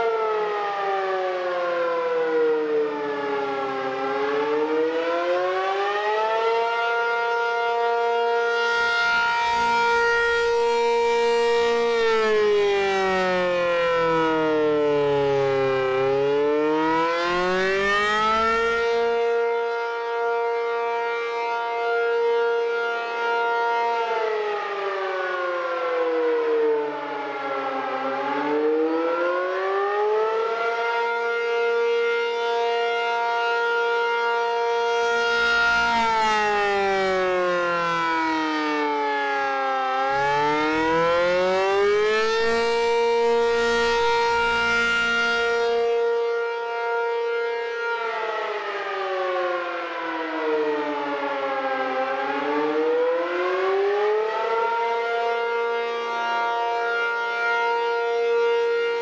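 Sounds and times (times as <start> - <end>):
rotating siren wailing: 0.0 - 59.0.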